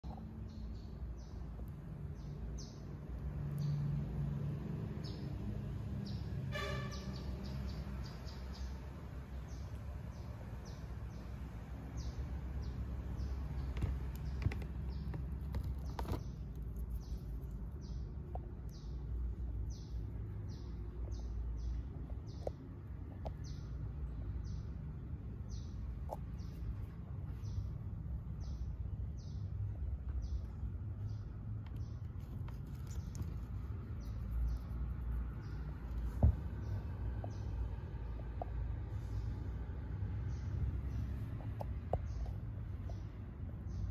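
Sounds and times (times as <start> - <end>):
small bird chirping: 0.0 - 43.9.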